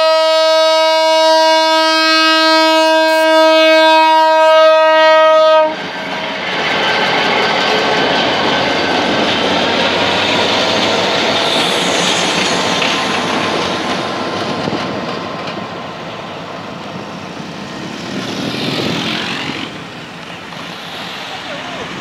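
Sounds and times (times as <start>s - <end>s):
diesel locomotive engines: 0.0s - 22.0s
train wheels on rails: 2.2s - 22.0s.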